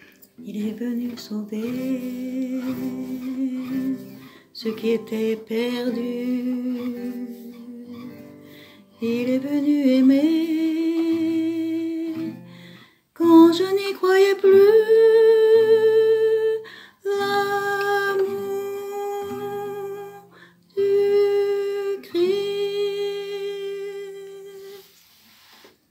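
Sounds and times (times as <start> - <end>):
plucked acoustic guitar: 0.0 - 24.6
person singing a hymn with vibrato: 0.5 - 8.2, 8.9 - 12.5, 13.2 - 24.9.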